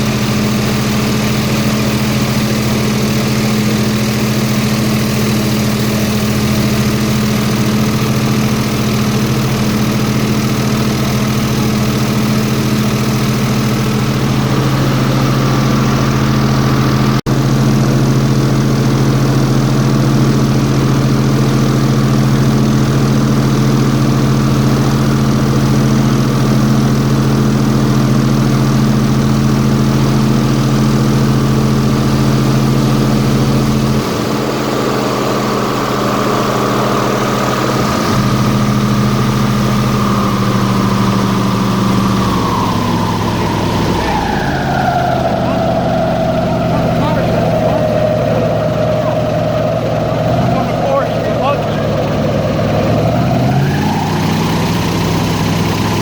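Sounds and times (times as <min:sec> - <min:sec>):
airboat engine droning: 0:00.0 - 0:56.0.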